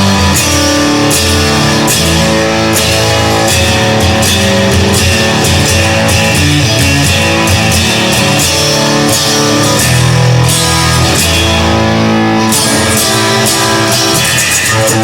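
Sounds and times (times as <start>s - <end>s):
guitar playing held chords: 0.0s - 15.0s.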